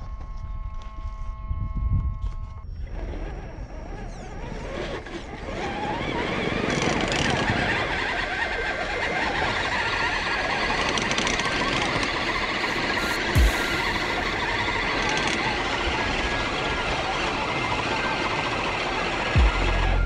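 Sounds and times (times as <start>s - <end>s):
electric motors whining: 0.0s - 20.0s
tyres churning sand: 2.8s - 20.0s.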